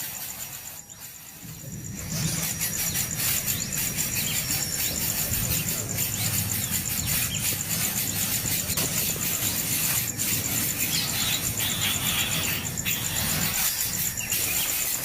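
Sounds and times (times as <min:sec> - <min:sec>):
nestling birds cheeping: 0:00.0 - 0:15.0
pulsing high buzz: 0:00.0 - 0:15.0.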